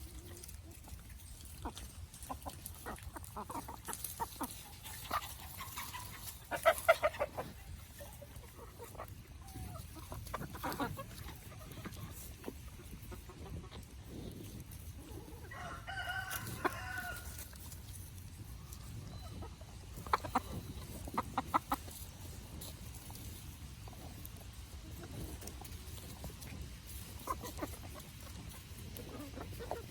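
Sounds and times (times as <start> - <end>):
chickens clucking and calling: 0.0 - 29.9.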